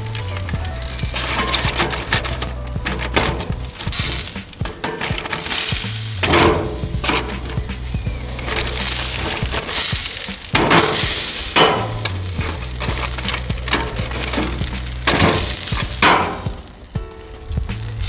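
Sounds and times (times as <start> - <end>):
metal spatula scraping: 0.0 - 16.8
burgers sizzling on a grill: 0.0 - 18.0
music bass line: 0.0 - 18.0.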